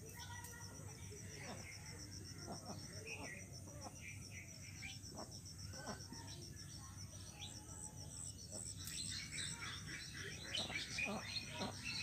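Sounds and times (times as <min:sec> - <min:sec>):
birds chirping: 0:00.0 - 0:12.0
insect high-pitched pulsing: 0:00.0 - 0:12.0.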